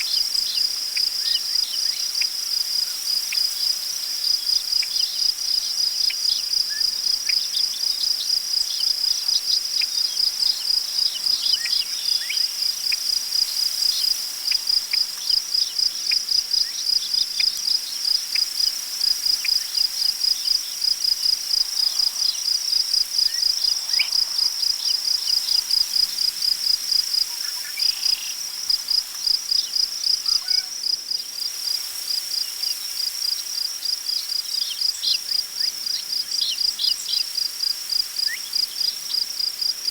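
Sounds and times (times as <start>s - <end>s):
crickets chirping: 0.0s - 39.9s
wind through tall grass: 0.0s - 39.9s.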